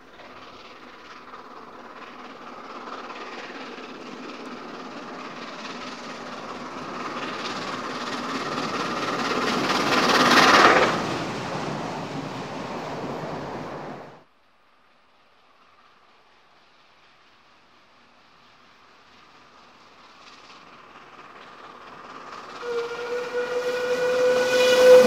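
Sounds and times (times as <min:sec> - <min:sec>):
steam locomotive passing: 0:00.0 - 0:14.2, 0:14.8 - 0:25.0.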